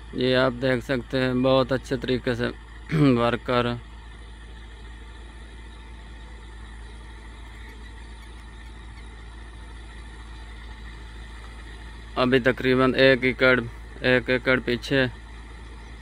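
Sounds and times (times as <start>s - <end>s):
distant tractor diesel engine: 0.0s - 16.0s.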